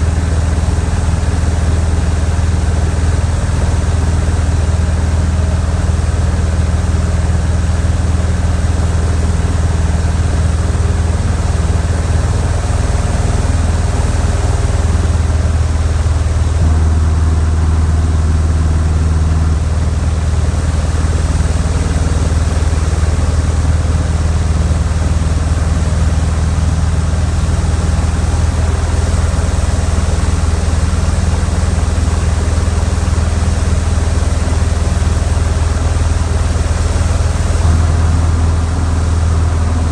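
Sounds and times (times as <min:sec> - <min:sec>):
light airplane engine droning: 0:00.0 - 0:39.9.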